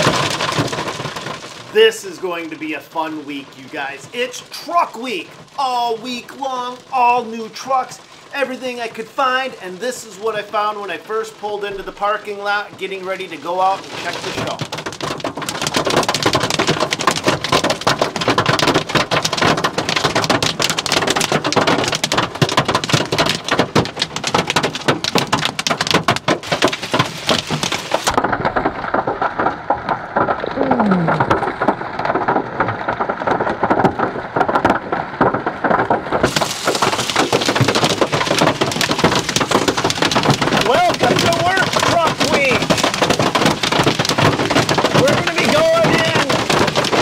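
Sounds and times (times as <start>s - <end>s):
heavy rain: 0.0s - 47.0s.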